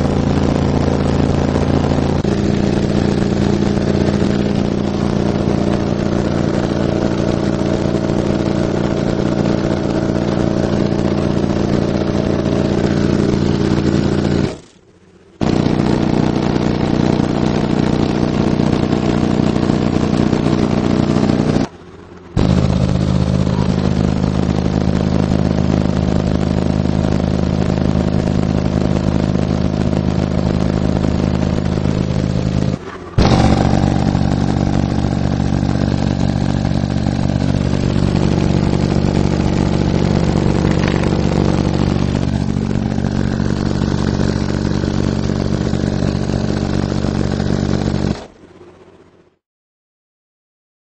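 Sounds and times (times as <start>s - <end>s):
deep bass test tones: 0.0s - 14.7s, 15.4s - 48.2s.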